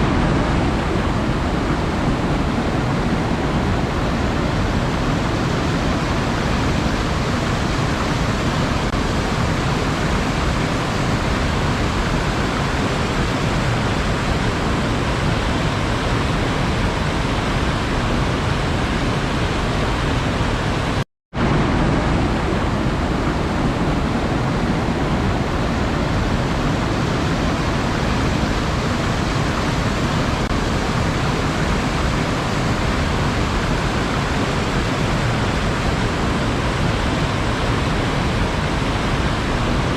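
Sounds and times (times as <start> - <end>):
sea surf roar: 0.0 - 39.9.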